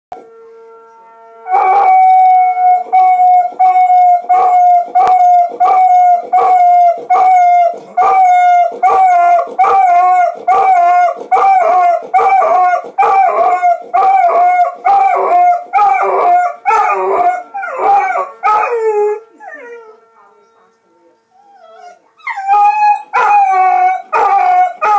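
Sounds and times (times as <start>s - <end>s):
dog howling: 0.2s - 20.1s, 21.4s - 24.9s
tornado siren pulsing tone: 0.2s - 20.8s.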